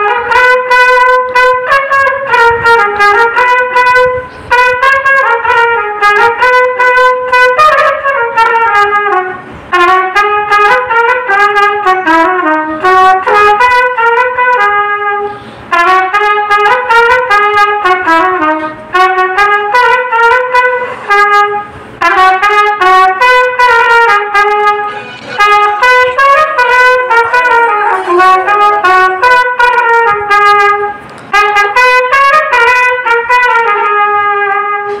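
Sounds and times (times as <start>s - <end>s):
solo trumpet melody: 0.0s - 35.0s.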